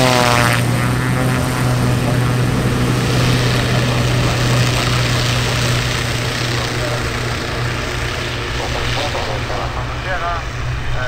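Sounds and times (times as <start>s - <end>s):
turboprop propeller drone: 0.0s - 11.0s
rushing noise: 0.6s - 11.0s.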